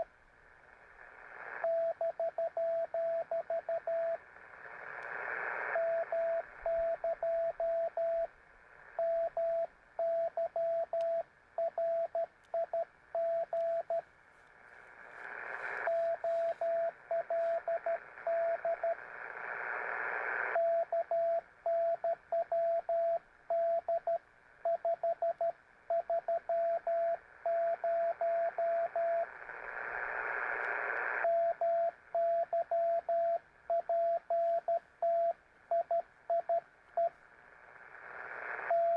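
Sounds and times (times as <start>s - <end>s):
radio receiver hiss: 0.0s - 23.8s, 25.4s - 38.9s.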